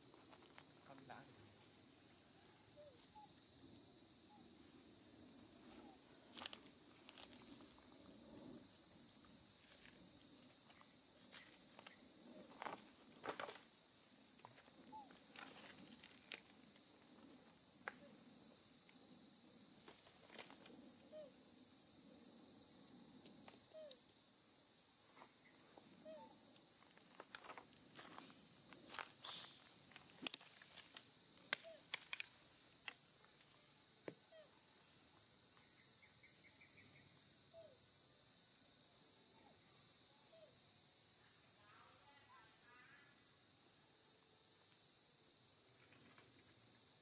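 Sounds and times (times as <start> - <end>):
insects droning: 0.0 - 47.0.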